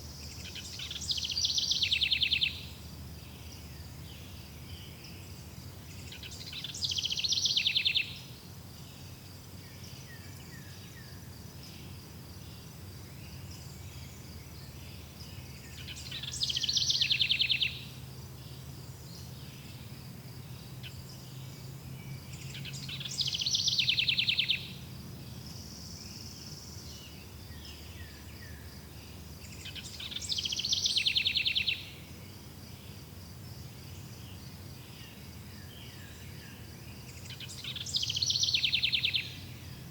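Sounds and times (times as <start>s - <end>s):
insects chirring: 0.0s - 39.9s
songbird singing with trill: 0.0s - 39.9s.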